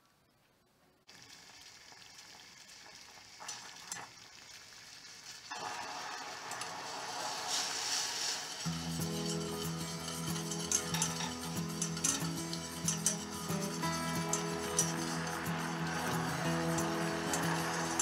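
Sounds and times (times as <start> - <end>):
sauce bubbling in a saucepan: 1.1 - 18.0.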